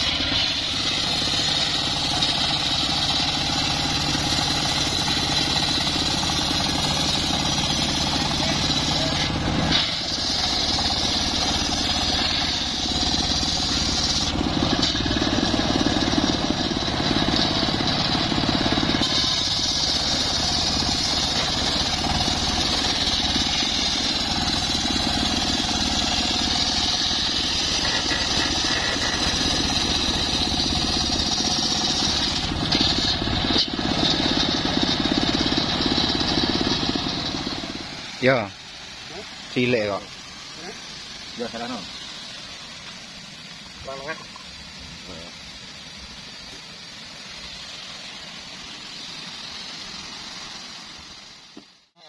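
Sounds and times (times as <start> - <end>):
circular saw cutting wood: 0.0 - 51.8.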